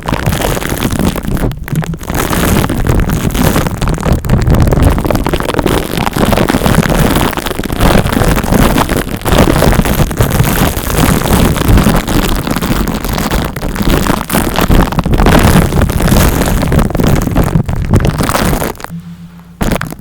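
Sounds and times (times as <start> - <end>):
fingers rubbing on microphone: 0.0 - 20.0.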